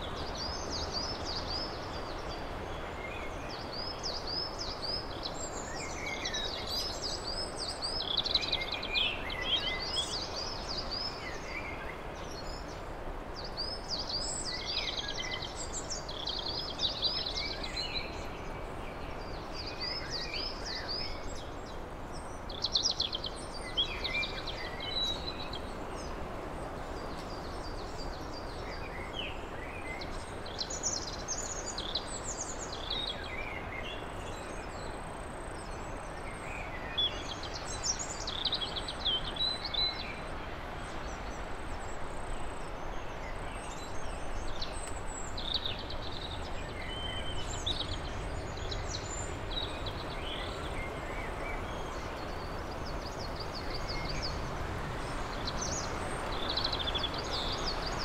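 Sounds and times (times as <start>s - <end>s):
songbirds singing: 0.0s - 58.0s
steady background hiss: 0.0s - 58.0s.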